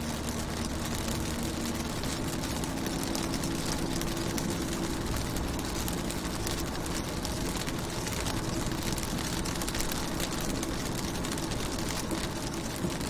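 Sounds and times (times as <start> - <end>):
rain on car windows and roof: 0.0 - 13.0.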